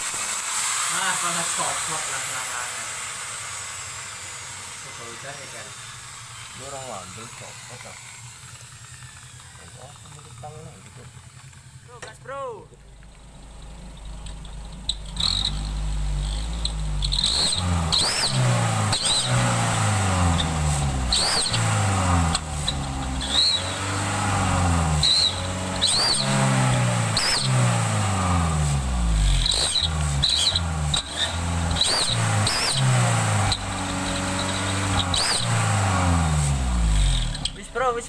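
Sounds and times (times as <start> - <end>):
van engine revving: 0.0 - 38.0.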